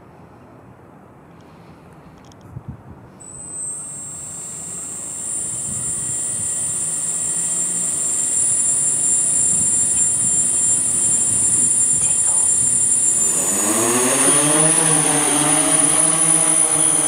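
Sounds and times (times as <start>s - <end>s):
drone motors high whine: 3.2s - 17.0s
propellers whirring rush: 3.2s - 17.0s.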